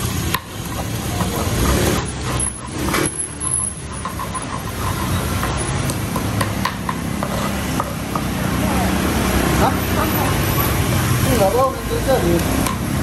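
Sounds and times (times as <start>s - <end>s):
motorbikes passing: 0.0s - 13.0s.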